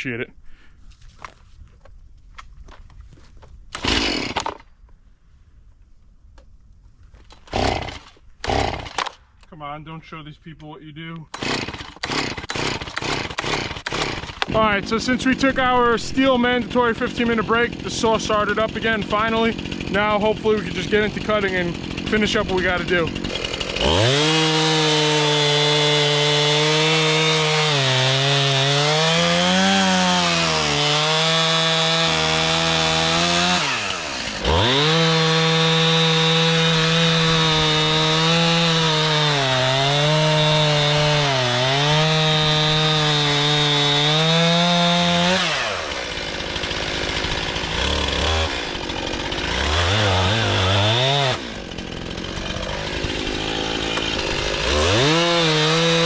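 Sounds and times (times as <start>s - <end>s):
chainsaw cutting through log: 3.7s - 4.7s, 7.3s - 9.2s, 11.3s - 56.0s
chainsaw idling: 3.8s - 4.6s, 7.4s - 9.1s, 11.3s - 56.0s.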